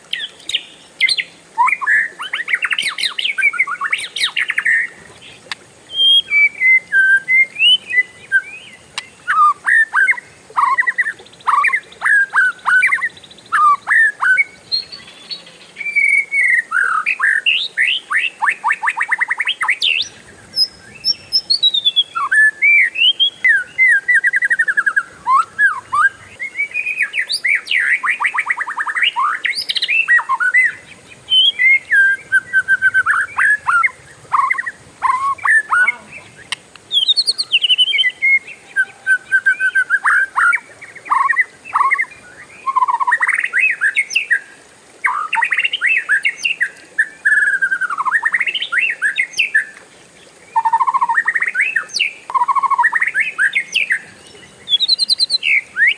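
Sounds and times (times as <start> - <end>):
bird singing with whistles and trills: 0.1 - 4.9, 5.9 - 44.4, 45.0 - 49.7, 50.5 - 55.9.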